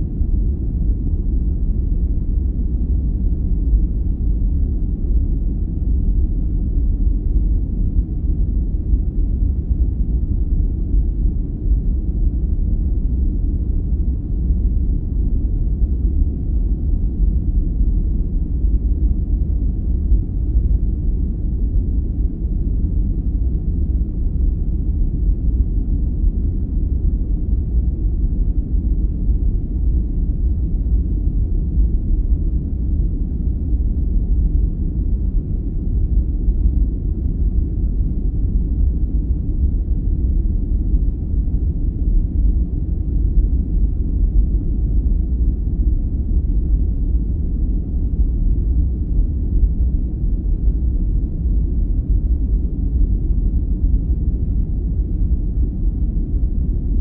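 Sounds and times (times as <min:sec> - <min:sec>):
muffled low rumbling hiss: 0:00.0 - 0:57.0.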